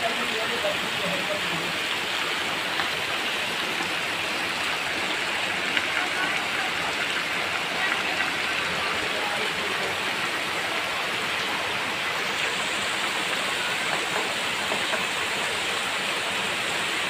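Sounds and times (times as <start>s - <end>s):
heavy rain falling: 0.0s - 17.0s
rainwater running off ground: 0.0s - 17.0s.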